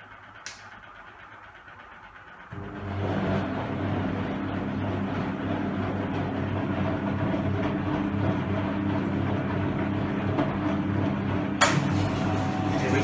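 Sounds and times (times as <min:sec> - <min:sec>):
washing machine motor hum: 0:00.0 - 0:13.0
wet laundry churning: 0:02.0 - 0:13.0.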